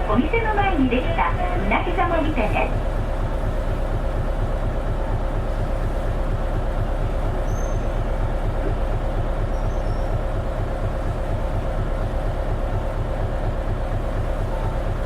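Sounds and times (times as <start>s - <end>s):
bus diesel engine rumbling: 0.0s - 15.0s
drivetrain whine: 0.0s - 15.0s.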